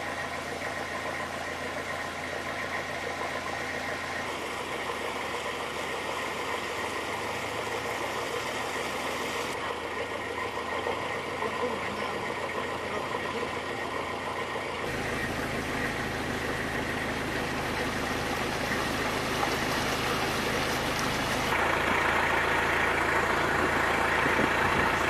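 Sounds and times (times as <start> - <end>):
engine humming: 0.0 - 25.0
outdoor noise: 0.0 - 25.0.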